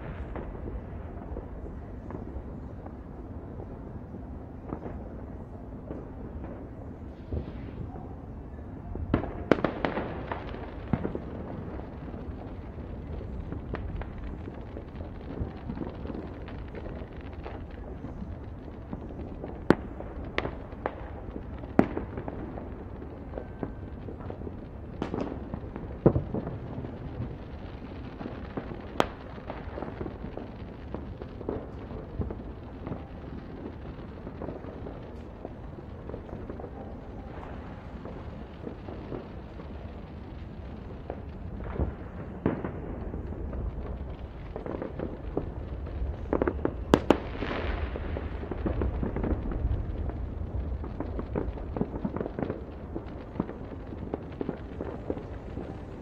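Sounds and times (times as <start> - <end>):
fireworks and firecrackers banging: 0.0 - 56.0.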